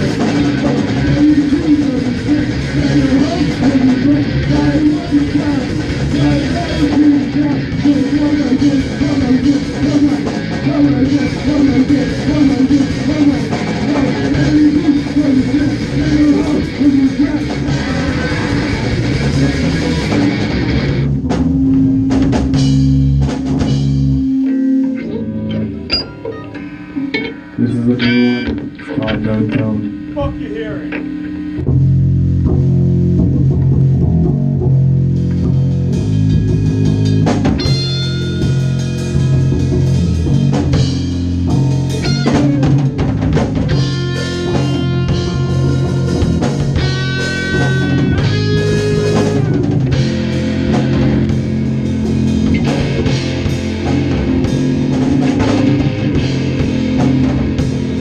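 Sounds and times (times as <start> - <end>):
ska-punk band playing live: 0.0 - 26.2, 31.6 - 58.0.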